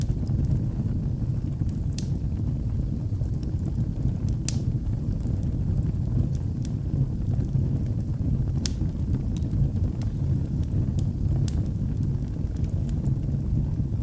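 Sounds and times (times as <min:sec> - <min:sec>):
fire crackles and pops: 0:00.0 - 0:14.0
low rumble of flames: 0:00.0 - 0:14.0.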